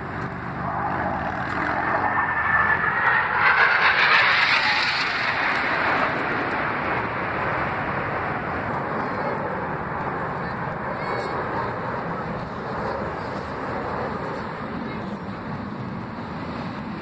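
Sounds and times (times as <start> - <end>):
jet roar passing overhead: 0.0 - 17.0.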